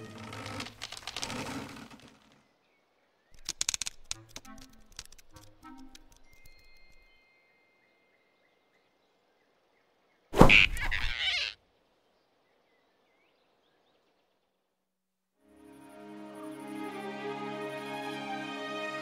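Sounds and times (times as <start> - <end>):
faint forest ambience: 0.0 - 19.0.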